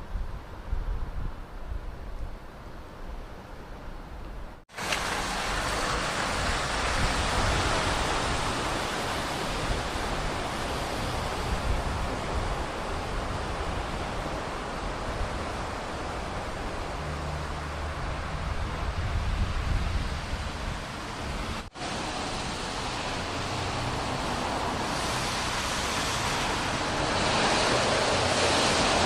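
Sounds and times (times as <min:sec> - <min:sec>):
heavy rain falling: 0:04.7 - 0:29.0.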